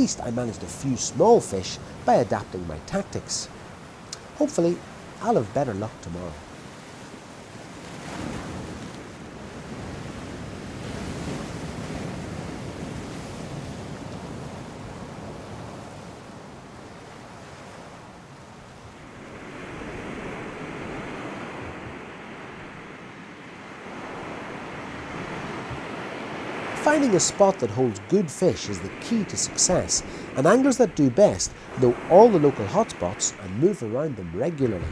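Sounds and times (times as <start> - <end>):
sea waves breaking: 0.0 - 34.9.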